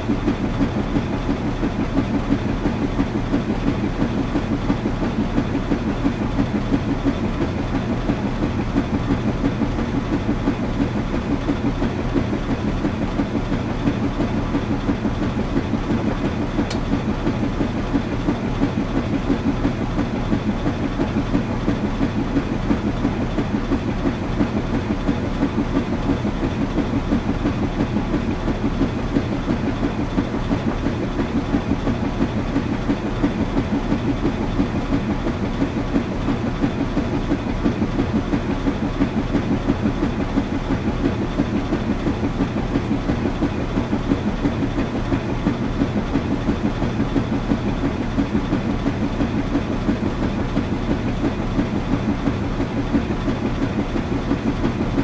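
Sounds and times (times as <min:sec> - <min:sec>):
washing machine rumbling: 0:00.0 - 0:55.0.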